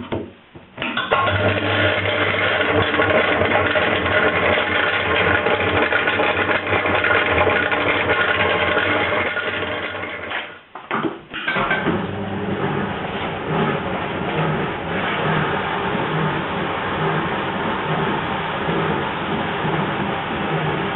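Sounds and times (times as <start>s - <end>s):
washing machine hum and churn: 0.0s - 20.9s.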